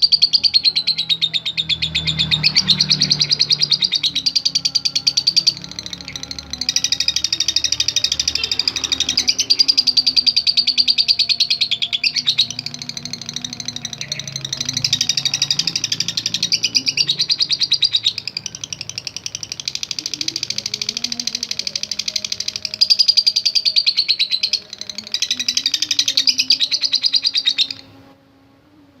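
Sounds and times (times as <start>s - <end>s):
lovebird chattering trill: 0.0s - 27.9s.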